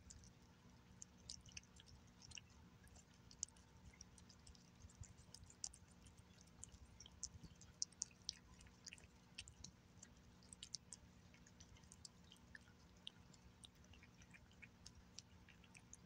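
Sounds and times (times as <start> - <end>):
cat chewing wet food: 0.0 - 16.0.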